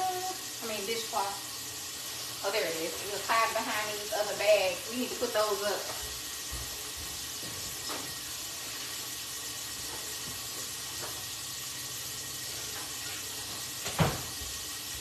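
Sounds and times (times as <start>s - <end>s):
water running from tap: 0.0s - 15.0s.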